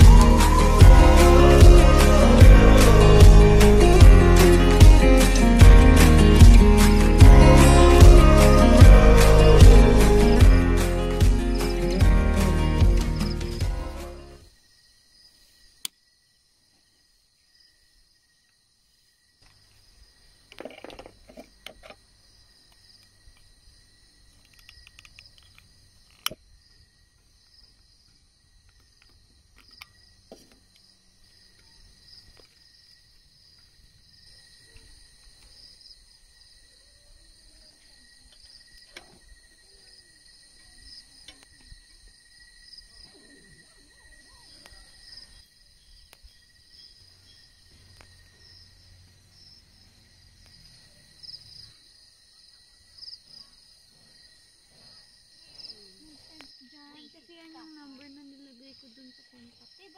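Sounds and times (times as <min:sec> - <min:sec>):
crickets and night insects chirring: 0:00.0 - 0:06.2, 0:07.5 - 0:13.6, 0:14.3 - 0:59.9.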